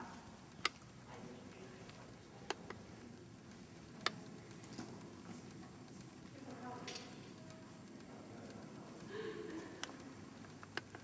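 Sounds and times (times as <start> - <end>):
sharp clicks: 0.4 - 1.0, 1.8 - 11.0.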